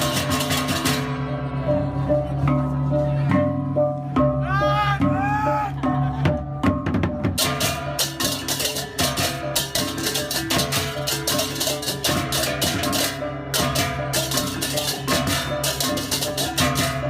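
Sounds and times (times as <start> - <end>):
percussion-driven music: 0.0 - 17.0.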